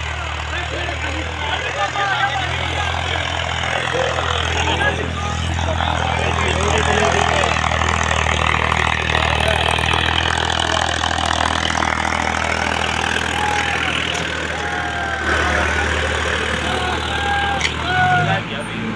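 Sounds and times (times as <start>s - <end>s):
tractor diesel engine under load: 0.0s - 18.9s.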